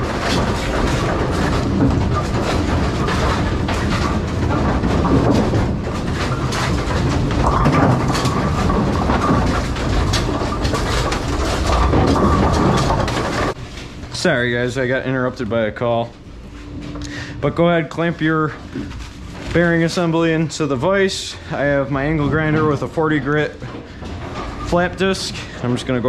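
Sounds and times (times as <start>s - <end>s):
bowling pinsetter clattering: 0.0s - 26.0s
steady high hum: 0.0s - 26.0s.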